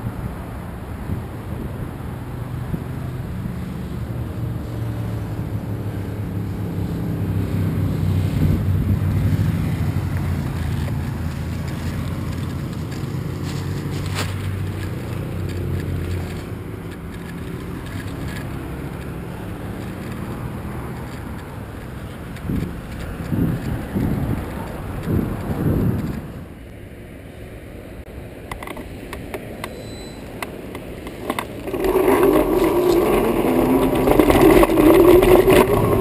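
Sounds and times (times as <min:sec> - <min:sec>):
wind noise on microphone: 0:00.0 - 0:26.6, 0:30.4 - 0:36.0
vehicle engine hum passing: 0:00.0 - 0:36.0.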